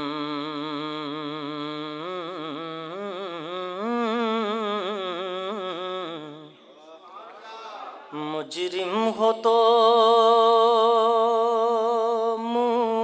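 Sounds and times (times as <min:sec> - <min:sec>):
man singing unaccompanied: 0:00.0 - 0:06.6, 0:08.1 - 0:13.0.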